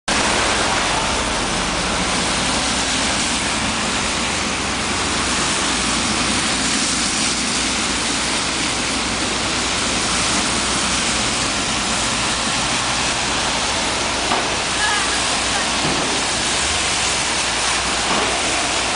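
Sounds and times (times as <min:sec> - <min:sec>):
car engines running: 0:00.1 - 0:18.9
tyres hissing on slush: 0:00.1 - 0:18.9.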